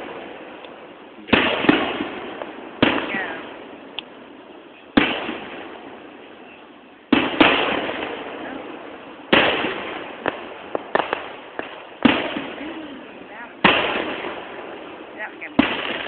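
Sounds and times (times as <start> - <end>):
fireworks booming with echo: 0.0 - 16.0
sharp firework cracks: 0.0 - 16.0.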